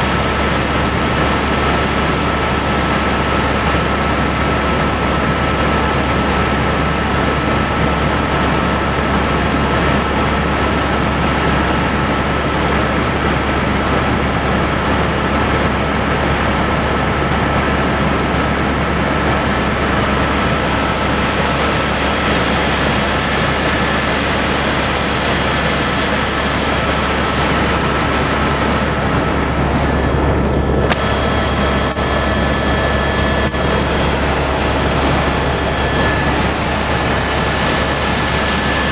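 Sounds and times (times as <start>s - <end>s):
helicopter engine and rotor drone: 0.0s - 38.9s
thin constant whine: 0.0s - 38.9s.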